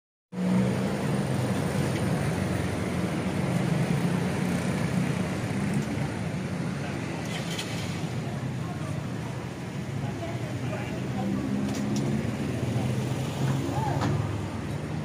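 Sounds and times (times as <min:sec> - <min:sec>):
street traffic: 0:00.3 - 0:15.0.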